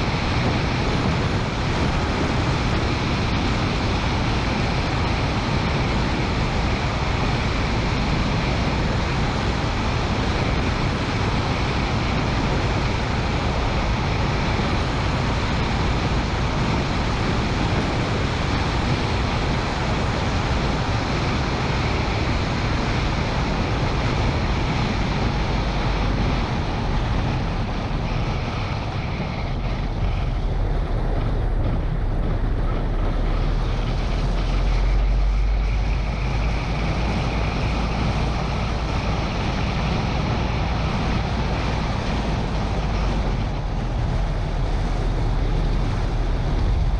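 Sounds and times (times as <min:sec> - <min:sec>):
car road and engine noise: 0:00.0 - 0:46.9
wind rushing over microphone: 0:00.0 - 0:46.9.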